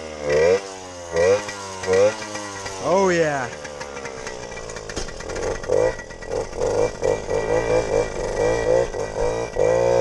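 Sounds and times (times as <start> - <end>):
pit bike engine revving: 0.0 - 10.0.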